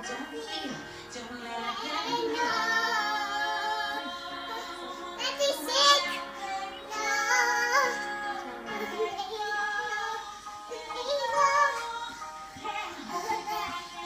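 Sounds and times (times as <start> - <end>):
high-pitched singing voice: 0.0 - 14.0
music playing: 0.0 - 14.0.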